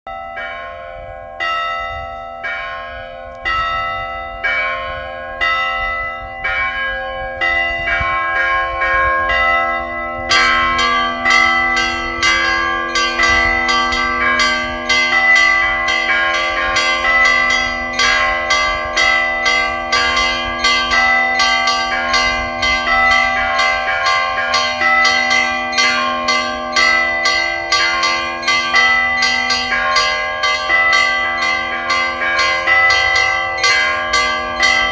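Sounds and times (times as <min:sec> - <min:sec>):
church bells ringing: 0:00.1 - 0:34.9
low bell lingering tone: 0:00.1 - 0:34.9.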